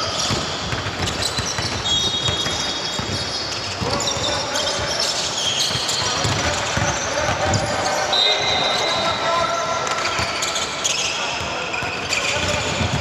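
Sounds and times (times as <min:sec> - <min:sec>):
basketball bouncing on court: 0:00.0 - 0:04.9, 0:05.5 - 0:08.0, 0:09.8 - 0:13.0
shoe squeak: 0:00.0 - 0:13.0
players' voices: 0:02.4 - 0:13.0.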